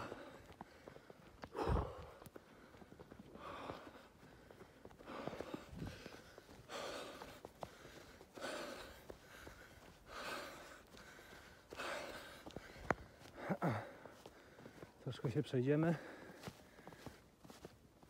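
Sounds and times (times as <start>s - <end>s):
man breathing hard: 0.0s - 15.0s, 15.8s - 17.4s.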